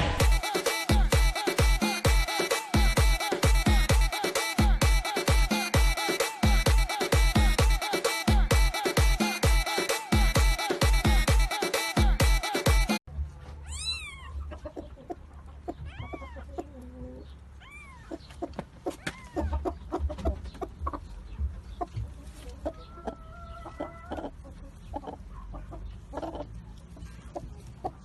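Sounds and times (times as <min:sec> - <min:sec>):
chickens clucking: 0:00.0 - 0:13.0, 0:14.0 - 0:28.0.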